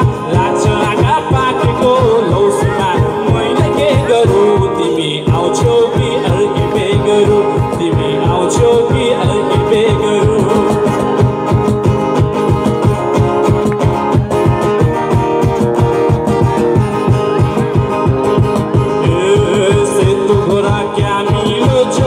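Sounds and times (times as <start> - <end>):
acoustic guitar: 0.0 - 22.0
cajon beat: 0.0 - 22.0.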